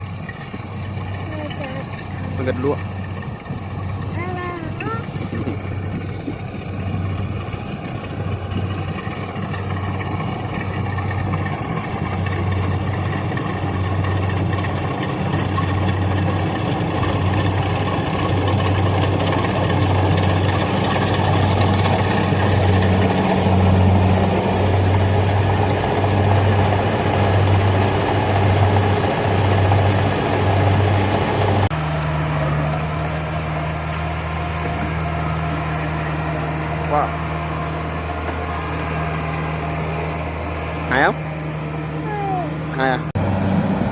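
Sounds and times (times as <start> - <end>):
harvester engine throbbing: 0.0 - 43.9.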